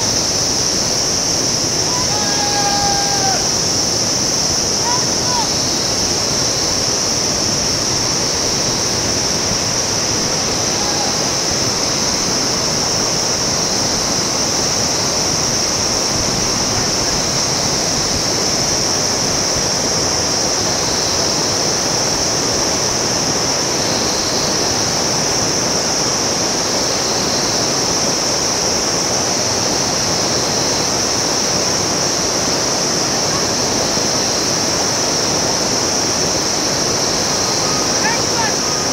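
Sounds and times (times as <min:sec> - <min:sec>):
fast river rushing: 0:00.0 - 0:38.9
high-pitched hiss: 0:00.0 - 0:38.9.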